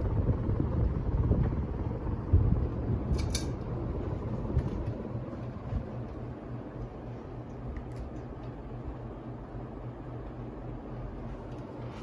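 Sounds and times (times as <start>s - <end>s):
ceiling fan air rush: 0.0s - 12.0s
low motor hum: 0.0s - 12.0s.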